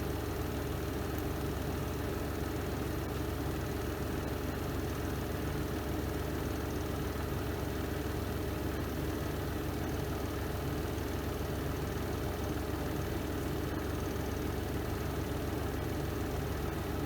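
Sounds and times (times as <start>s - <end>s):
washing machine spin cycle hum: 0.0s - 17.0s.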